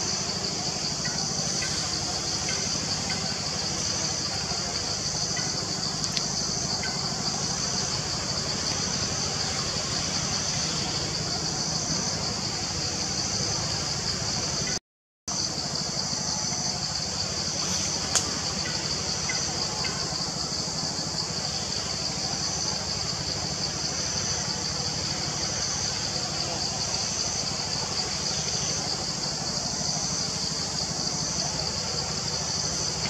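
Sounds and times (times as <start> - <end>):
insect chorus buzzing: 0.0 - 33.0.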